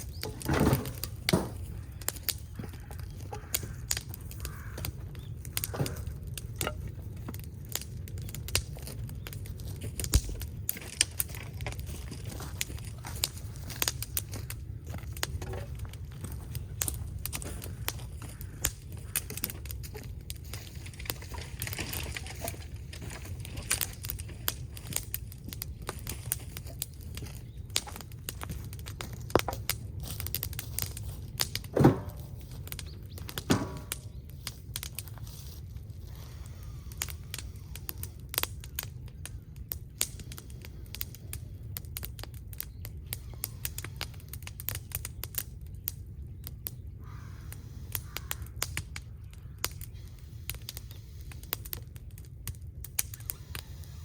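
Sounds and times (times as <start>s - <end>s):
steady low rumble: 0.0s - 43.3s
wood fire crackling and popping: 0.0s - 54.0s.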